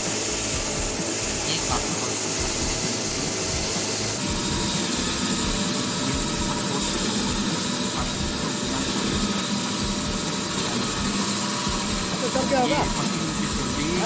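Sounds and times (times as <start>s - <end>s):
concrete cutting machinery drone: 0.0s - 14.0s
high hiss: 0.0s - 14.0s.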